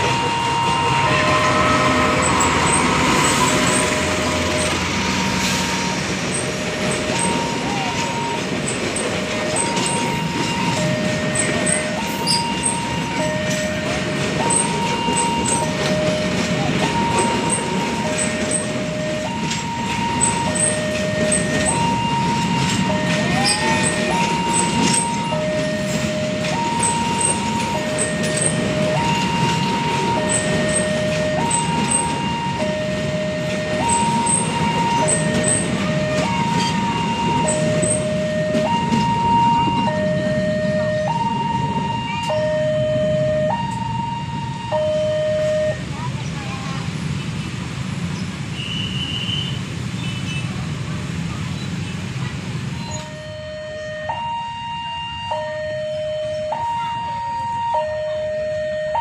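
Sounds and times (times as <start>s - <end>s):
level crossing two-tone alarm: 0.0s - 46.1s, 52.8s - 59.0s
passenger coaches rumbling past: 0.0s - 59.0s.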